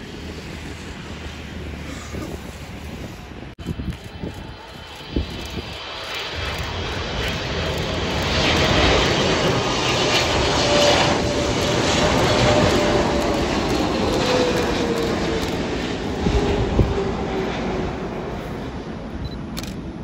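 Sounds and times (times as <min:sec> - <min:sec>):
jet engine whine: 0:00.0 - 0:20.0
jet engines roaring: 0:00.0 - 0:20.0.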